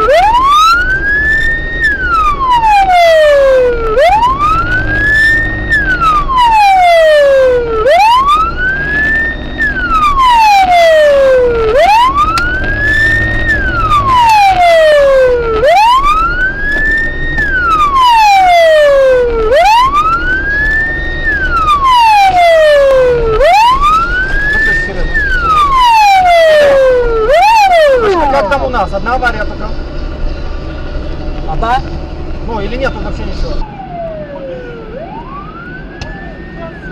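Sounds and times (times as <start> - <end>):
low vehicle hum: 0.0 - 36.9
police siren wailing: 0.0 - 36.9.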